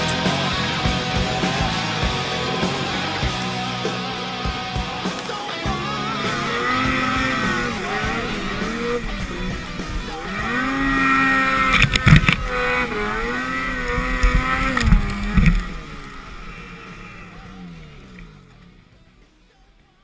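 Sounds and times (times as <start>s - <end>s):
sharp thumps: 0.0s - 18.9s
snowmobile engine revving: 0.0s - 20.0s.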